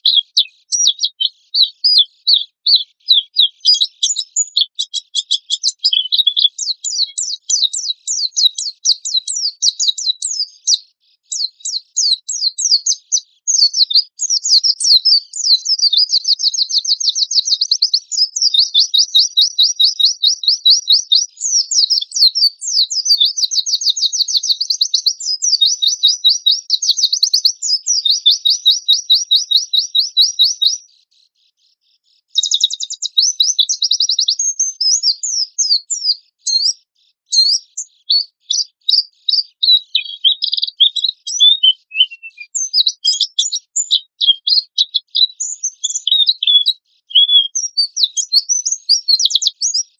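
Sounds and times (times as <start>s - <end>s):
bird trilling and chirping: 0.0s - 30.9s, 32.3s - 49.9s.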